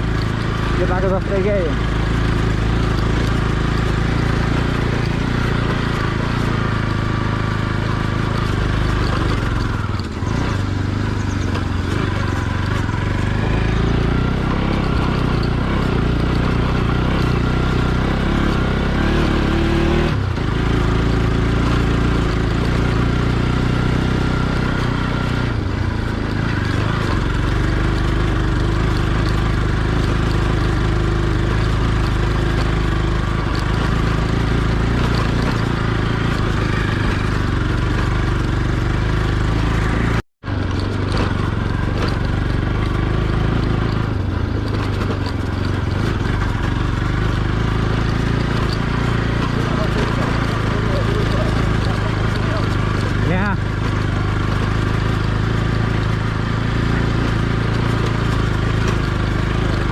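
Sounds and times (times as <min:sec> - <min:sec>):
motorcycle engine running: 0:00.0 - 0:59.9
rushing wind and road noise: 0:00.0 - 0:59.9.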